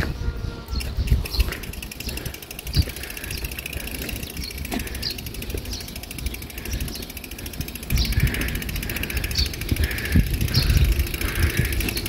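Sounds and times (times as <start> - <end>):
wind rumble on microphone: 0.0 - 12.0
fast bicycle ticking: 0.8 - 12.0.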